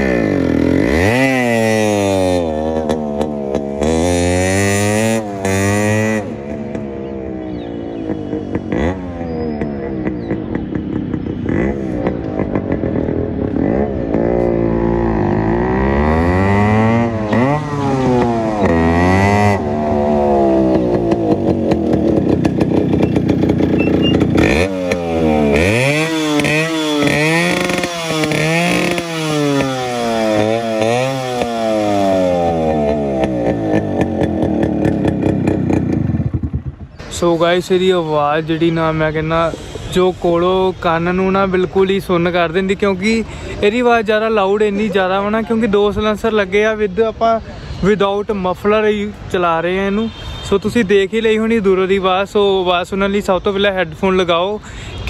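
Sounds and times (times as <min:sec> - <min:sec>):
motorcycle engine accelerating: 0:00.0 - 0:47.4.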